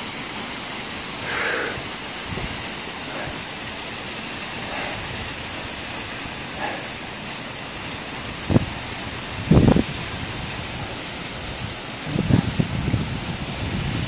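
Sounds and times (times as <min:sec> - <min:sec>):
waterfall splashing onto rocks: 0:00.0 - 0:14.0.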